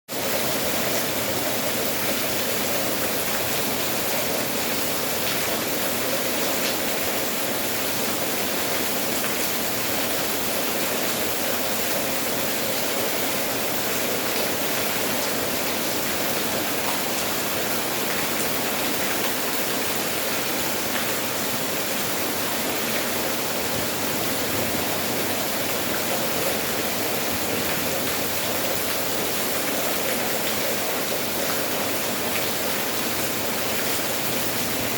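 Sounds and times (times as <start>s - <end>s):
rain falling: 0.1s - 34.9s.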